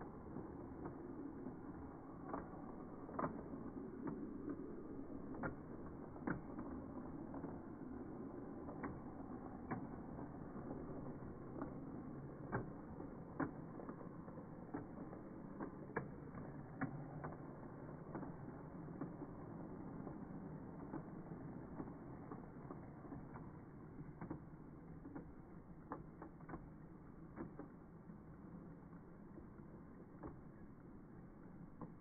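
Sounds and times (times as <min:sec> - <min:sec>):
model train cars rumbling: 0:00.0 - 0:32.0
wheels clicking over rail joints: 0:00.0 - 0:32.0.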